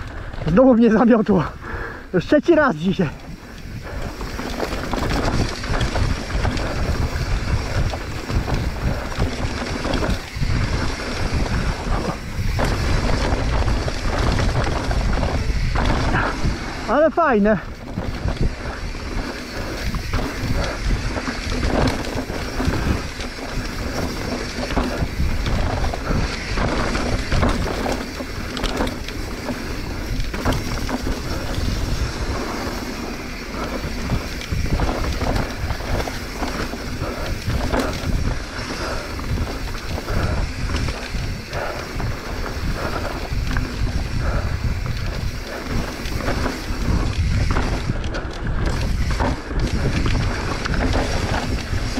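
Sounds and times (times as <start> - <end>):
bike knocking and rattling: 0.0 - 51.9
tyres on dirt trail: 0.0 - 51.9
wind rumbling on microphone: 0.0 - 51.9.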